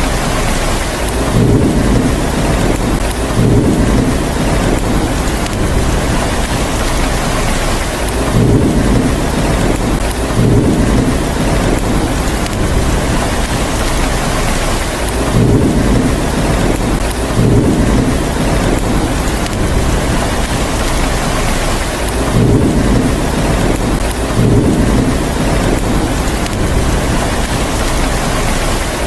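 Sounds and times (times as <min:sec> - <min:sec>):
heavy rain: 0:00.0 - 0:29.0
low thunder rumbles: 0:00.0 - 0:29.0.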